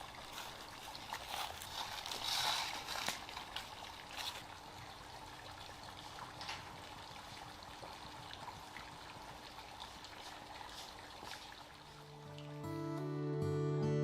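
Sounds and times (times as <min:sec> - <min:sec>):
fire crackling: 0:00.0 - 0:12.5
simmering pot hissing: 0:00.0 - 0:12.7.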